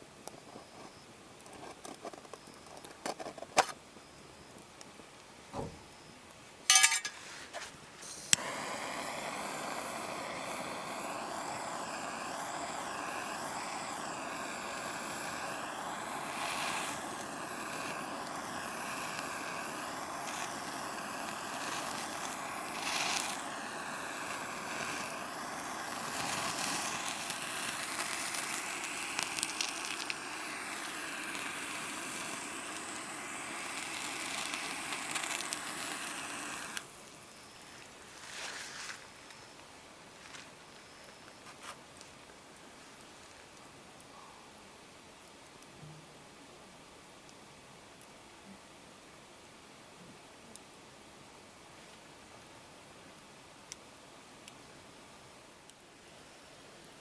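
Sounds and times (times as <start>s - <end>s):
campfire hissing and crackling: 0.0s - 57.0s.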